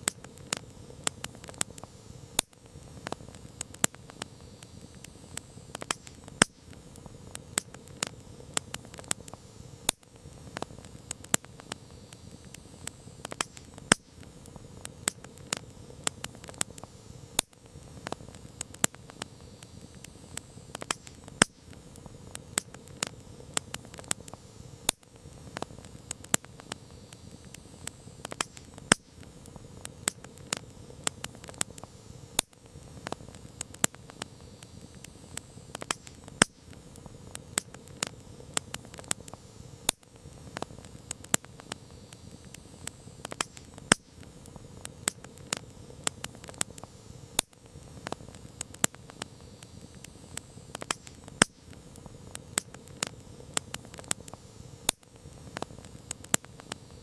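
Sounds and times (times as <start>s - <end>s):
burning wood popping: 0.0s - 57.0s
soft hiss of flames: 0.0s - 57.0s.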